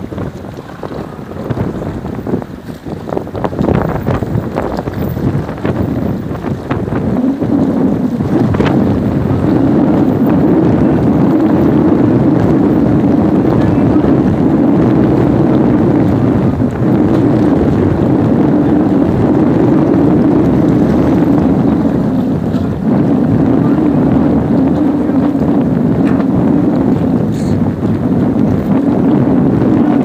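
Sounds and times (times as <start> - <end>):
boat motor running: 0.0 - 30.0
wind buffeting microphone: 0.0 - 30.0.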